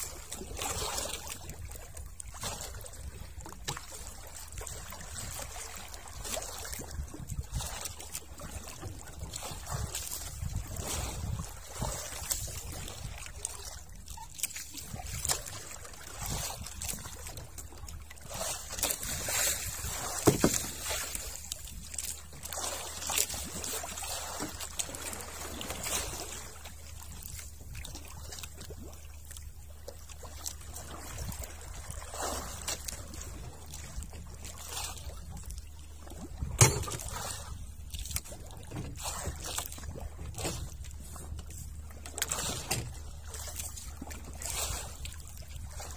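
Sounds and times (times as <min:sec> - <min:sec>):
knocks and clicks in boat: 0:00.0 - 0:45.9
water lapping against boat: 0:00.0 - 0:45.9.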